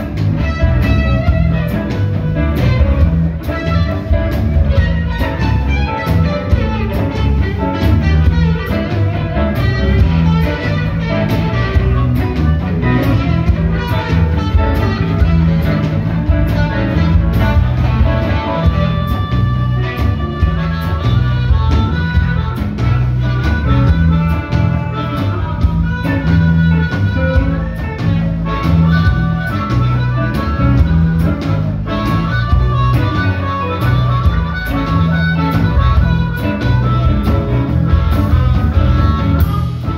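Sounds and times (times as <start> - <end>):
blues band playing: 0.0 - 39.9
electric guitar solo: 0.0 - 39.9
harmonica: 0.0 - 39.9.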